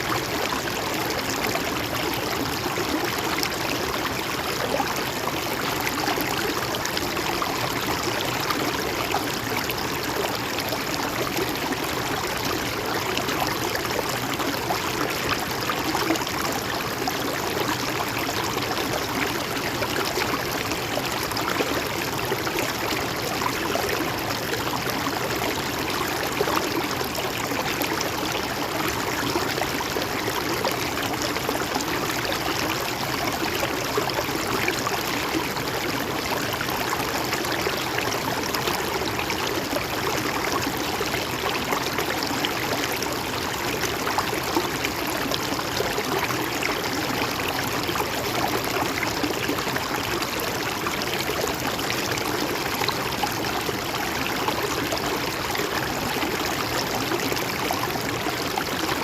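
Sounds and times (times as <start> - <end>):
river flowing and gurgling: 0.0 - 59.0.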